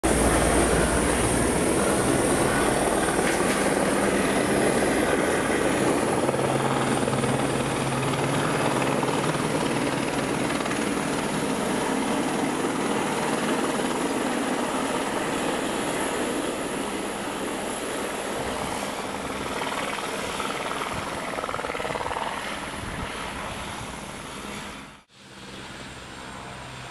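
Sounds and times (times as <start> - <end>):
helicopter rotor and engine: 0.0 - 26.9.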